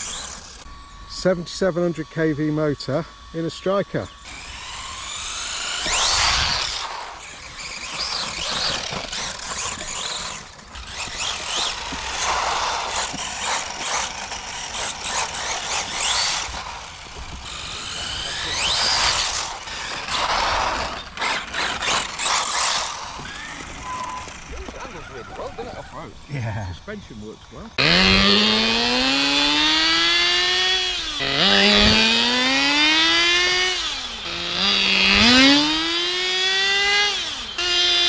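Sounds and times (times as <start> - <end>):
high-pitched motor whine: 0.0 - 38.0.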